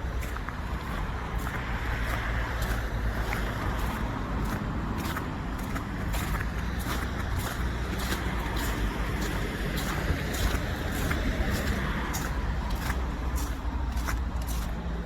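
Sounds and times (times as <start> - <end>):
footsteps crunching in snow: 0.0 - 15.0
road traffic rumble: 0.0 - 15.0.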